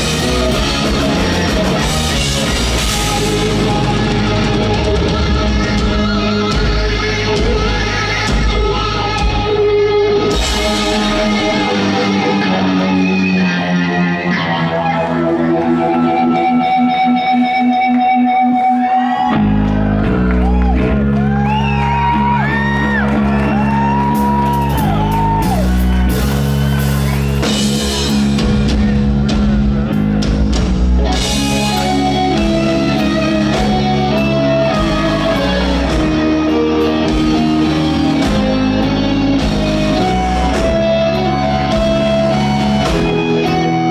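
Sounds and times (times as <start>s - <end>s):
lead guitar bending notes: 0.0s - 20.0s, 27.5s - 43.9s
drums and bass: 0.0s - 43.9s
rock band playing live: 0.0s - 43.9s.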